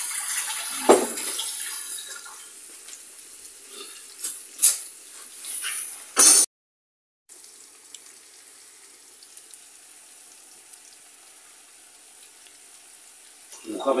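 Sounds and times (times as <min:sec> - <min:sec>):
onions sizzling in a frying pan: 0:00.0 - 0:06.2, 0:07.3 - 0:14.0.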